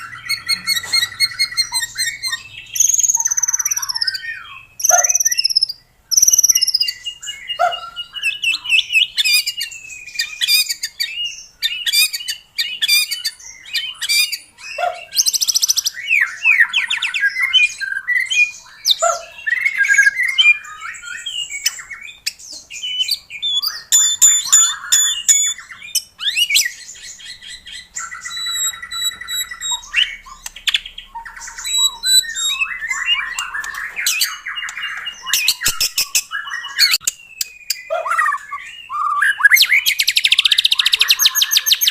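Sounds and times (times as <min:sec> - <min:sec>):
songbird singing varied song: 0:00.0 - 0:41.9.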